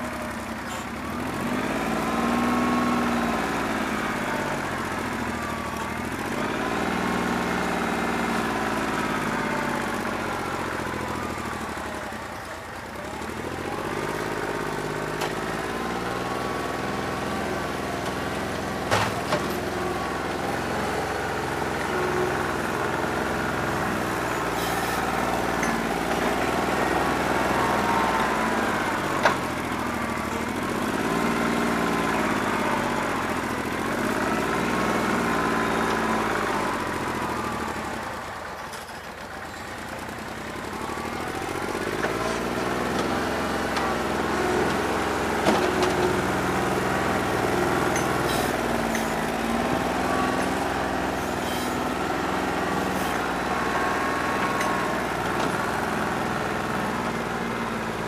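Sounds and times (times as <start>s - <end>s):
tractor diesel engine misfiring: 0.1s - 58.0s.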